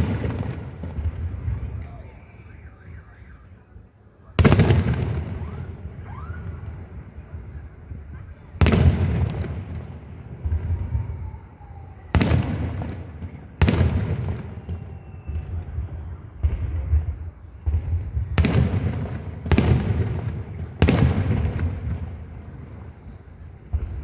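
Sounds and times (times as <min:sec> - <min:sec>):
fireworks booming: 0:00.0 - 0:24.0.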